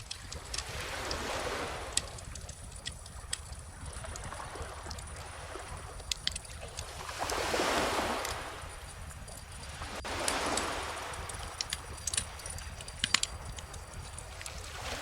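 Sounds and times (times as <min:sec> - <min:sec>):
bonfire crackling: 0:00.0 - 0:15.0
ocean waves breaking: 0:00.0 - 0:15.0.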